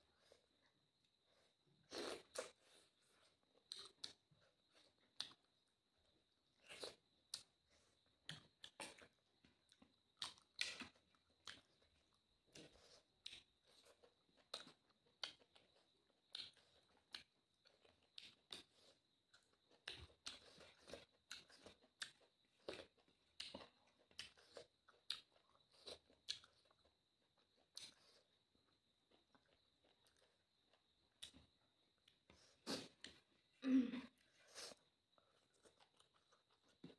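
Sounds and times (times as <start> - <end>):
chewing and mouth smacks: 1.9 - 5.6, 6.6 - 33.4, 34.5 - 36.9.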